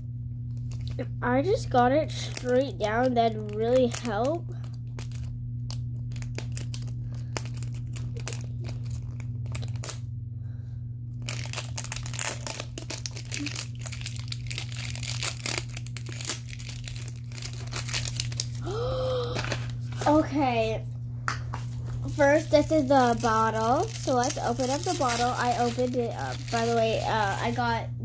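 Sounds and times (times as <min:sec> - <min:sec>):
plastic wrapper crinkling and tearing: 0:00.4 - 0:10.1, 0:11.2 - 0:20.3, 0:21.6 - 0:27.9.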